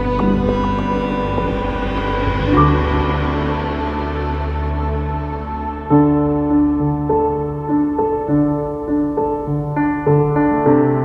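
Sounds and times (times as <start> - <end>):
soft piano melody: 0.0 - 11.0.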